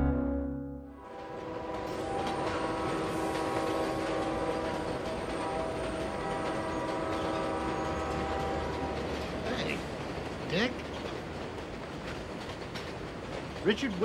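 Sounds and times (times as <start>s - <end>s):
train running noise: 0.9s - 14.0s.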